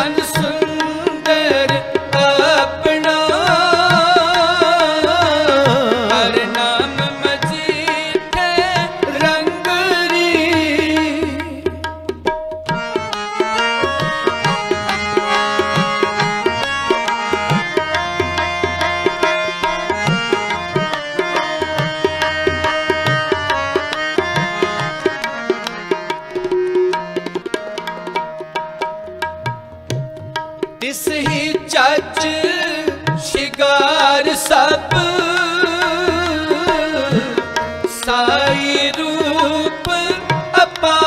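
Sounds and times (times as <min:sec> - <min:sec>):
harmonium melody: 0:00.0 - 0:41.0
tabla strokes: 0:00.0 - 0:41.0.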